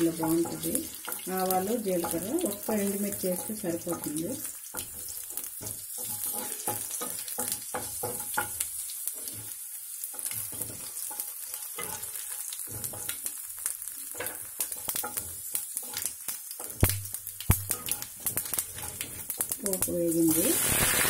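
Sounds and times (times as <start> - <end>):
spoon stirring in a pan: 0.0 - 20.0
hot oil sizzling: 0.0 - 21.0.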